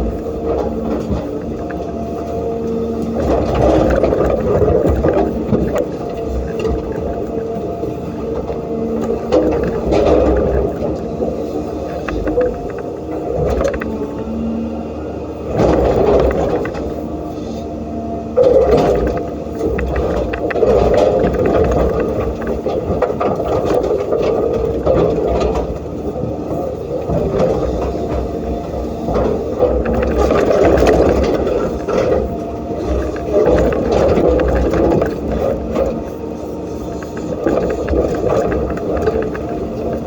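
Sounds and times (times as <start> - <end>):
diesel excavator engine: 0.0 - 40.0.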